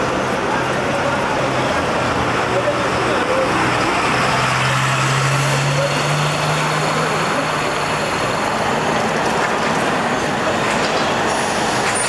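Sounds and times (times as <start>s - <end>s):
street traffic: 0.0s - 12.0s
tram wheels on rail: 0.0s - 12.0s.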